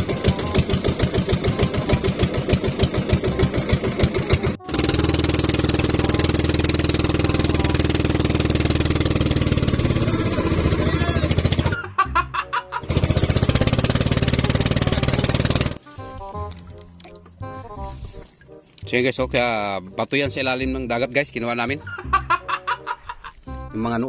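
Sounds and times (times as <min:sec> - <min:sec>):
boat engine chugging: 0:00.0 - 0:20.4.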